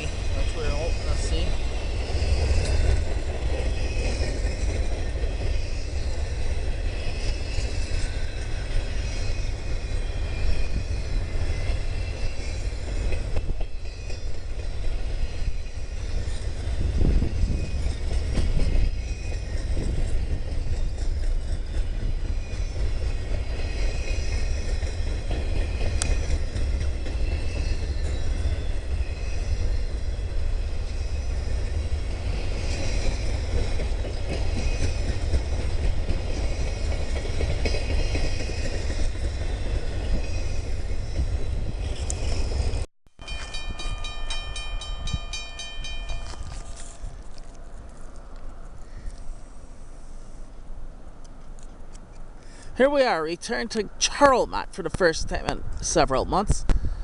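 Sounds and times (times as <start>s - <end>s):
railroad cars rumbling past: 0.0s - 57.0s.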